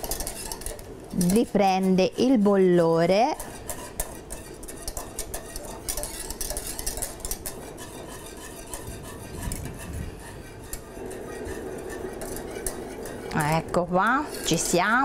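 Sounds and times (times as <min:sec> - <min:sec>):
whisk clicking and scraping pan: 0:00.0 - 0:15.0.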